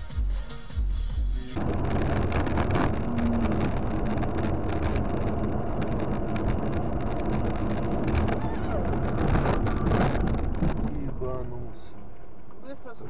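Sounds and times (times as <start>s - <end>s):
car engine and road noise: 0.0s - 13.0s
wind buffeting microphone: 1.6s - 12.6s.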